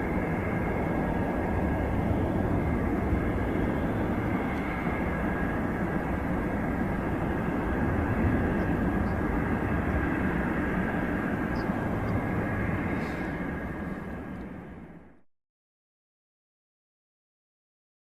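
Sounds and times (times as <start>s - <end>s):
jet engines running: 0.0s - 15.2s.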